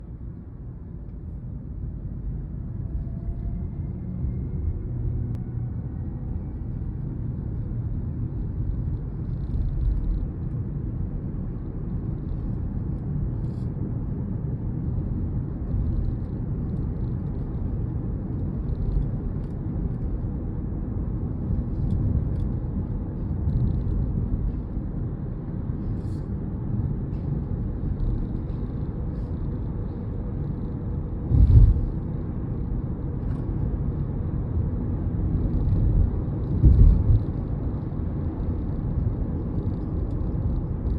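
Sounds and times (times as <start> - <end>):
road and wind rumble: 0.0 - 40.9.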